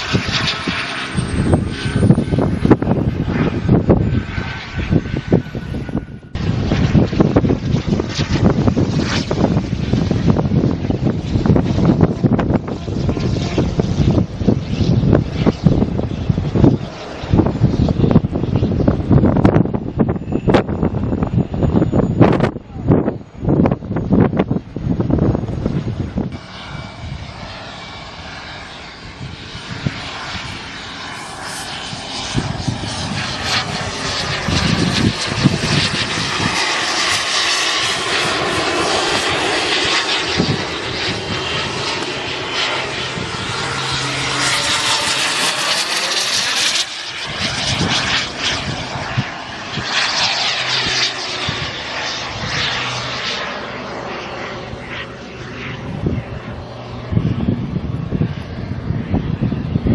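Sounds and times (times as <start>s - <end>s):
model jet turbine roaring: 0.0s - 59.9s.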